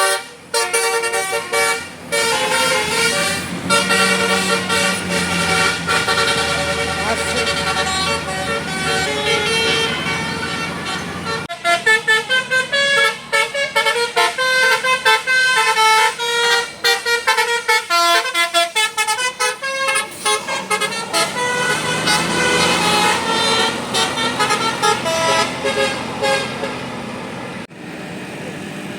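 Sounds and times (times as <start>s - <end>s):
bus melody horn: 0.0s - 27.2s
vehicle noise: 0.0s - 28.9s.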